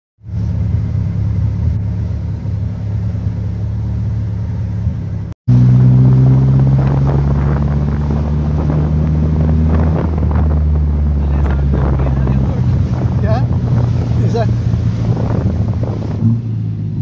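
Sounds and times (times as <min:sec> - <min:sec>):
car engine humming: 0:00.2 - 0:17.0.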